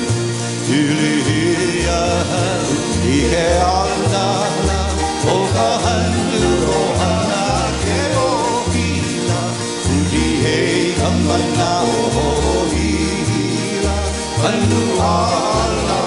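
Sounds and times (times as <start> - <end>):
person singing: 0.0 - 16.0
strummed acoustic guitar: 0.0 - 16.0
ukulele strumming: 0.0 - 16.0
upright bass plucking: 0.0 - 16.0.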